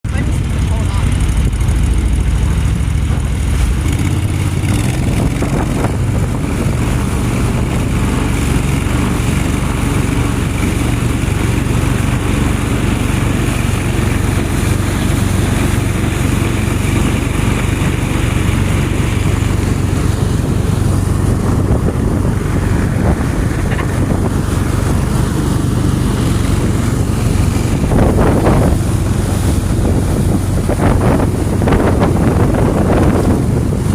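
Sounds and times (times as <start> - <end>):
boat motor running: 0.0 - 33.9.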